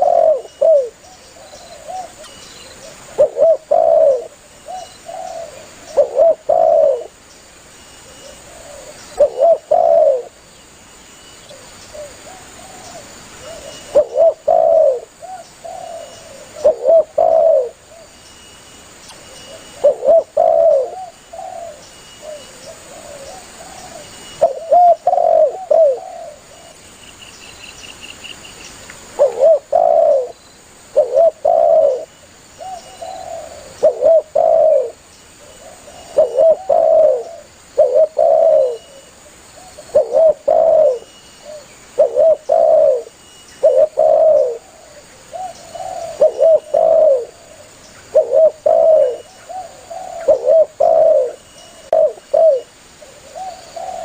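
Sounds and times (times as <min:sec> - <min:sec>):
dove cooing: 0:00.0 - 0:07.2, 0:08.0 - 0:10.4, 0:11.5 - 0:18.2, 0:19.3 - 0:26.8, 0:29.2 - 0:54.0.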